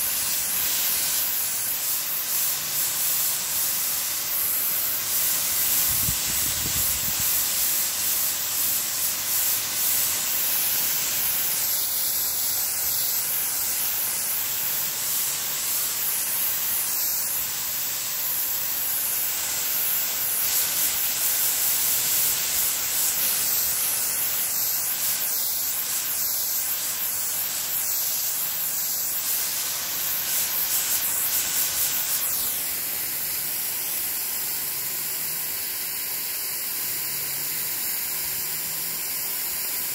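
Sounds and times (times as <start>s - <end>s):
water spray hissing: 0.0s - 39.9s.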